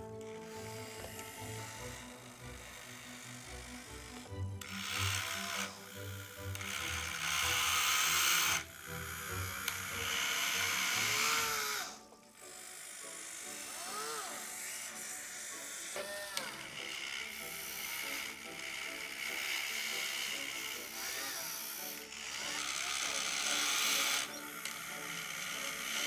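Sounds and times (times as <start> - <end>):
background music: 0.0 - 26.0
small electric motors whirring: 0.0 - 26.0.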